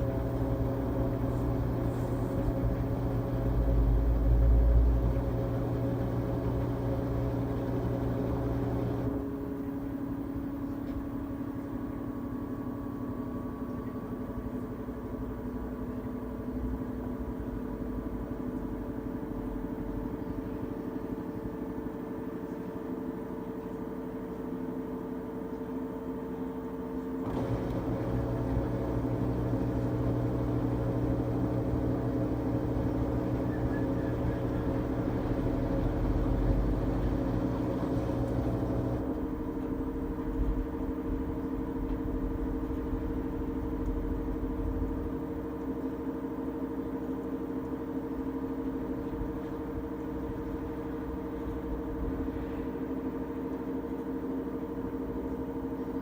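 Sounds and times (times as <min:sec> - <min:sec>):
washing machine motor hum: 0:00.0 - 0:25.4, 0:26.0 - 0:56.0.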